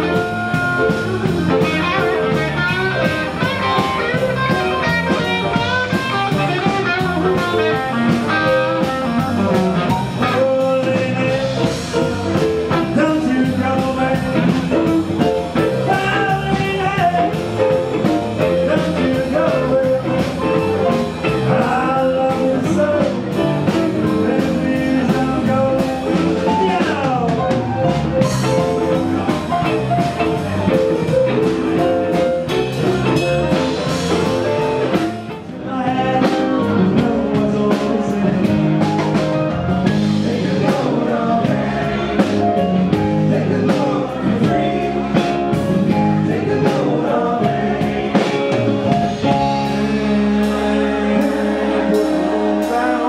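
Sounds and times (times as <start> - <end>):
blues band playing live: 0.0 - 53.0
drum kit: 0.0 - 53.0
electric guitar: 0.0 - 53.0.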